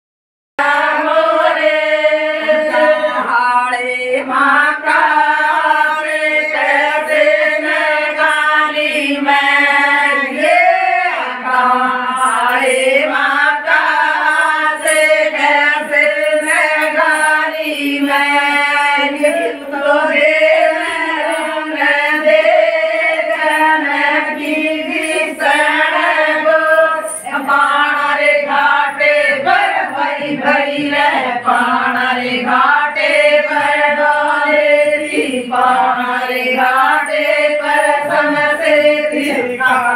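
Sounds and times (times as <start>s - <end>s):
women singing in unison: 0.6s - 39.9s.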